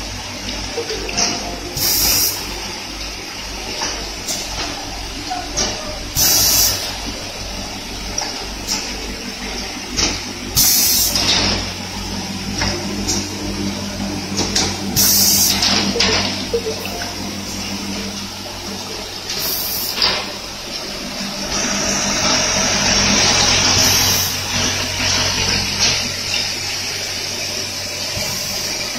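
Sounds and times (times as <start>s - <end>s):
machine humming with clatter: 0.0s - 28.9s.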